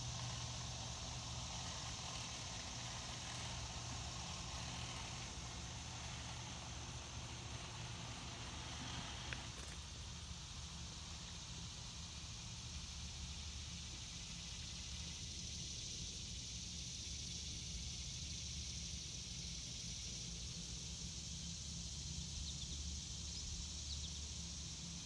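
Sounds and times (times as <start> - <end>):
steady high hiss: 0.0 - 25.0.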